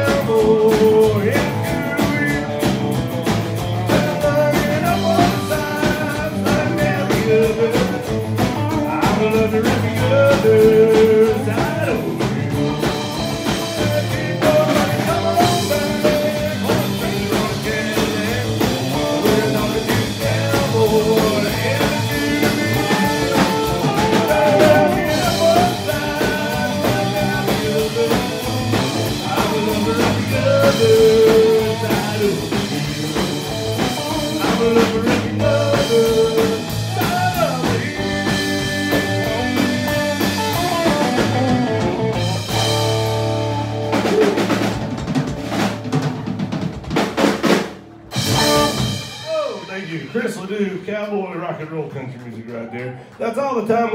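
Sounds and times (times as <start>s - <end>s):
electric guitar: 0.0s - 49.6s
bass guitar: 0.0s - 50.8s
drum kit: 0.0s - 52.3s.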